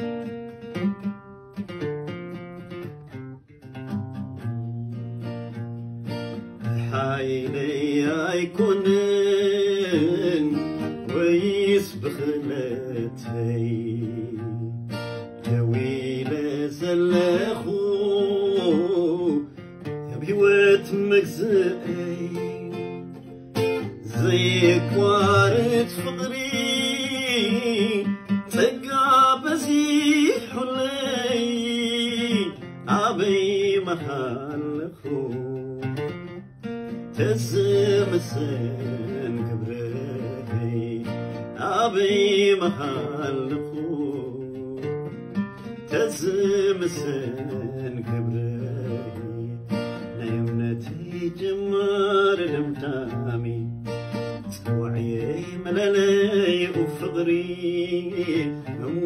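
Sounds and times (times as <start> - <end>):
strummed acoustic guitar: 0.0 - 59.0
man singing: 6.6 - 59.0.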